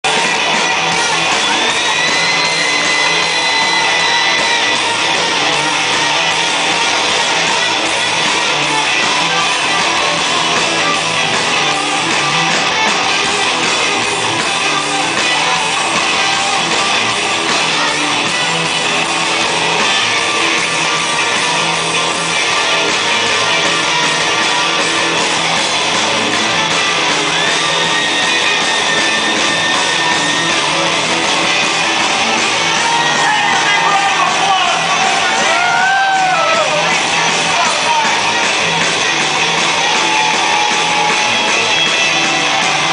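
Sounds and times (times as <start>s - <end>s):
electric guitars: 0.0s - 42.9s
live rock band playing: 0.0s - 42.9s.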